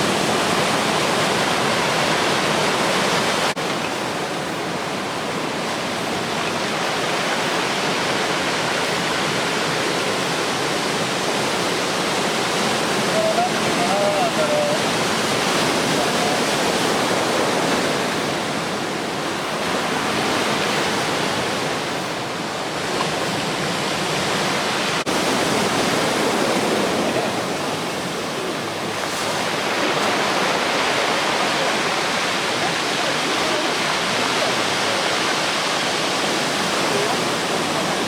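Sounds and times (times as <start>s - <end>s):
surf breaking on beach: 0.0s - 38.0s.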